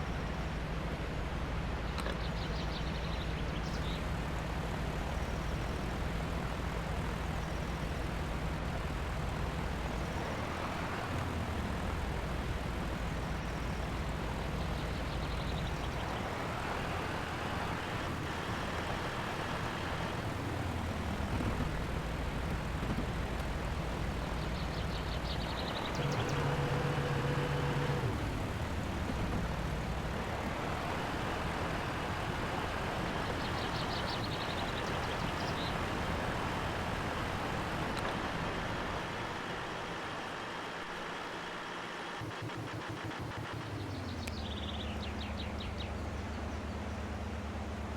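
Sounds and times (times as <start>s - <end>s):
heavy truck engines revving: 0.0s - 47.9s.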